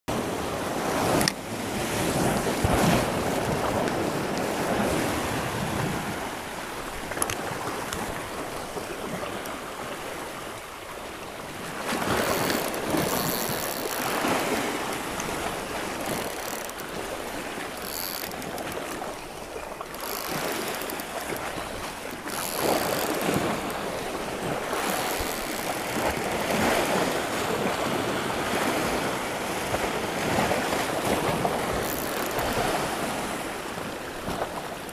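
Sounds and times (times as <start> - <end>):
sea waves on rocky shore: 0.1 - 34.9.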